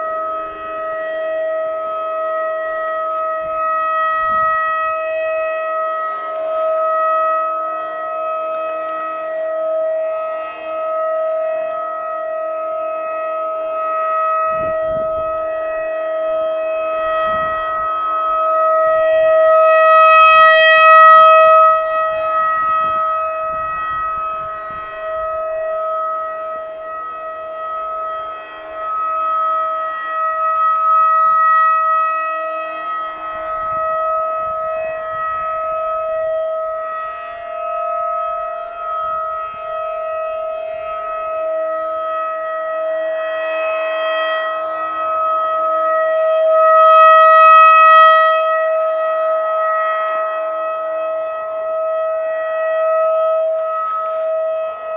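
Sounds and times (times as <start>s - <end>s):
rotating warning siren: 0.0s - 54.9s.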